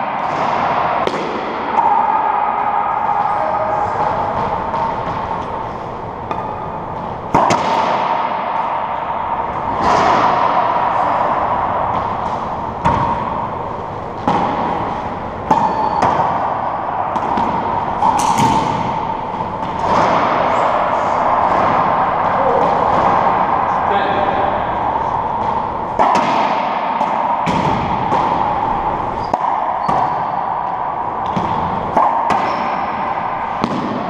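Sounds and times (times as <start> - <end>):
steady hum: 0.0 - 34.0
racquetball cracking off racquets: 0.2 - 2.2, 4.0 - 8.8, 9.5 - 23.8, 24.5 - 34.0.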